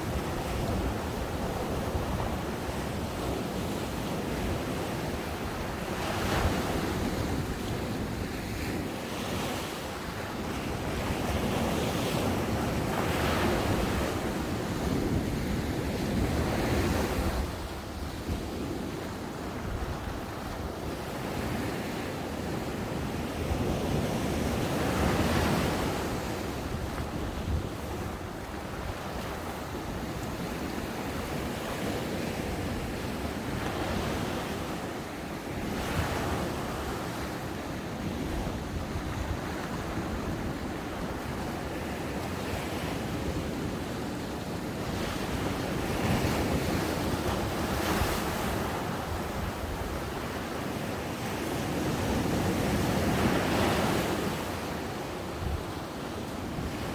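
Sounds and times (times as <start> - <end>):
ocean waves breaking on beach: 0.0 - 56.9
wind noise on microphone: 0.0 - 56.9.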